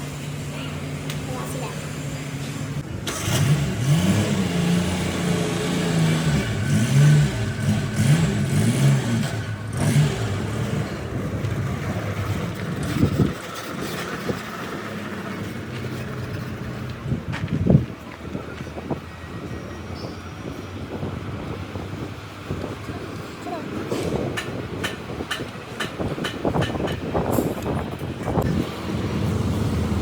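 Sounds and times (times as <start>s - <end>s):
vehicle engine revving: 0.0s - 25.3s, 27.0s - 30.0s.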